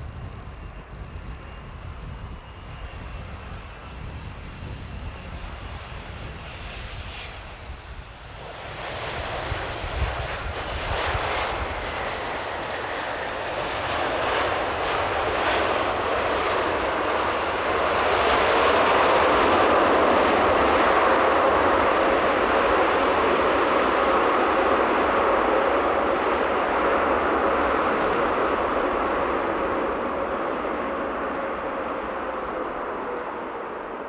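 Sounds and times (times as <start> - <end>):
jet engines roaring: 0.0 - 34.0
wind buffeting microphone: 0.0 - 34.0.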